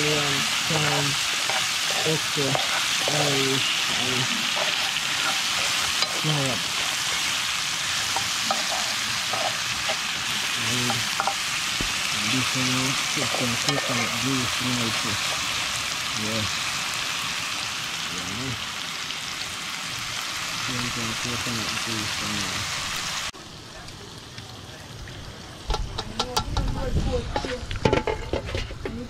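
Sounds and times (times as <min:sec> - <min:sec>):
vegetables sizzling in a skillet: 0:00.0 - 0:27.9.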